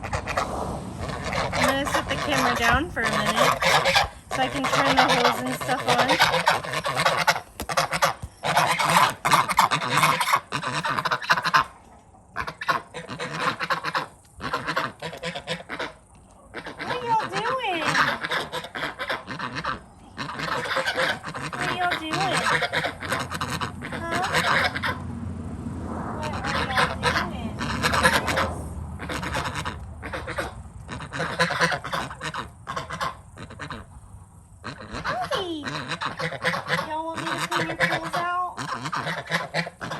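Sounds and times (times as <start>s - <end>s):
geese honking: 0.0s - 11.8s, 12.4s - 25.3s, 26.2s - 39.9s.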